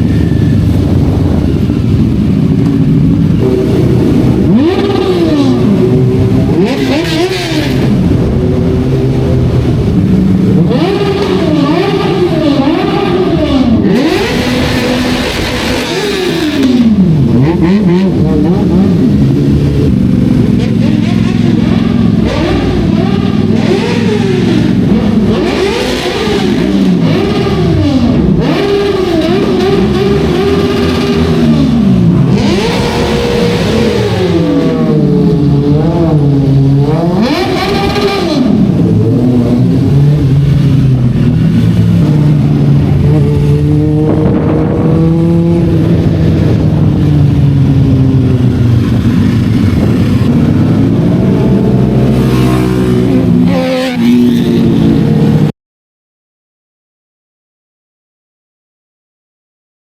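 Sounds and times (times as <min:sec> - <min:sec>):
loud motorcycle engines revving: 0:00.0 - 0:55.5.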